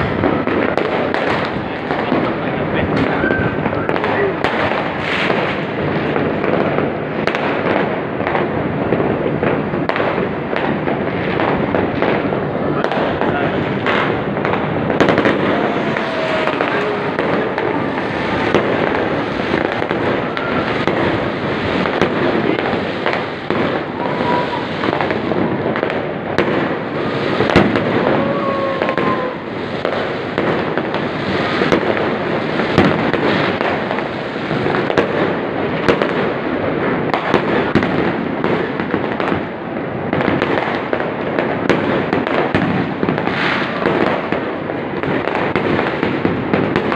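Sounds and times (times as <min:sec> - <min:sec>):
firework bangs: 0:00.0 - 0:46.9
fireworks crackling and popping: 0:00.0 - 0:46.9.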